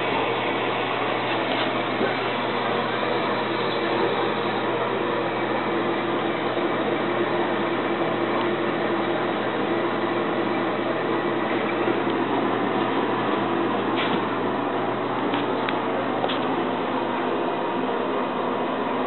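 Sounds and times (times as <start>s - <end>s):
water running in plumbing: 0.0s - 19.0s.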